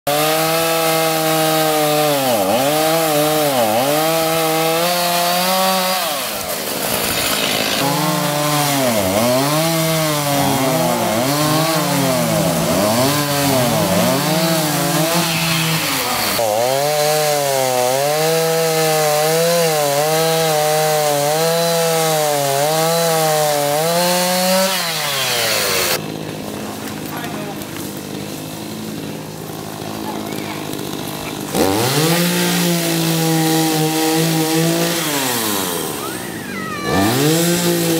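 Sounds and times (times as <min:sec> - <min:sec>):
chainsaws cutting wood: 0:00.1 - 0:37.9.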